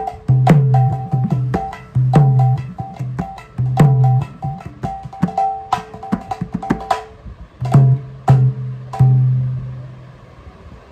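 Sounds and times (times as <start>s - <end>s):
hand drum treble strokes: 0.0s - 9.9s.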